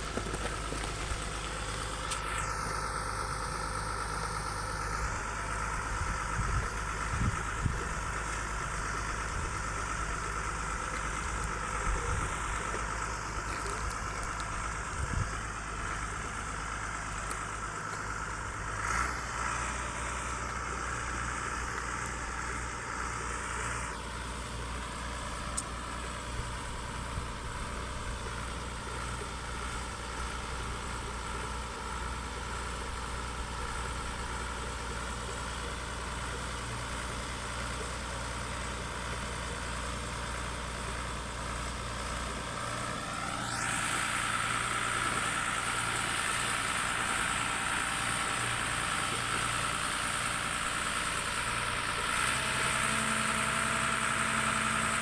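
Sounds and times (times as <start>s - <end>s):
drilling rig engine humming: 0.0s - 55.0s.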